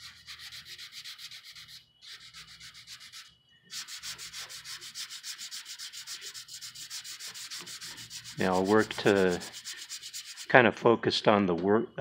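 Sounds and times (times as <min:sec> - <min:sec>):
hand sanding strokes: 0:00.0 - 0:10.7.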